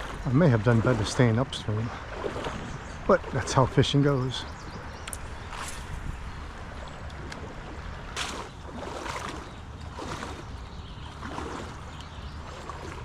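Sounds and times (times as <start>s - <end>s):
footsteps splashing in water: 0.0s - 3.7s, 4.8s - 13.0s
creek rushing: 0.0s - 13.0s.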